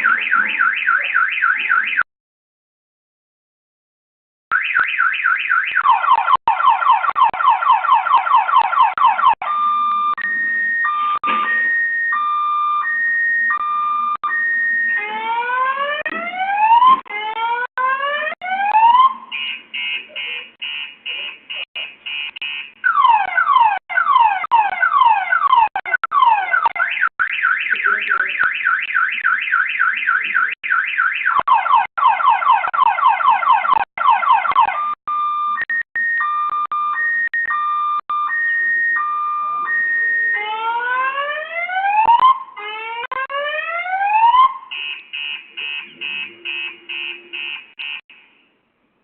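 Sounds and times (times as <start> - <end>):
car alarm tones: 0.0 - 2.1, 4.5 - 41.2, 41.8 - 48.2.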